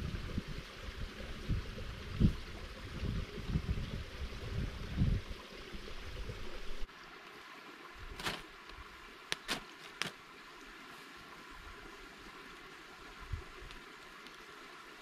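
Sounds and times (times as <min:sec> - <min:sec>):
creek running: 0:00.0 - 0:15.0.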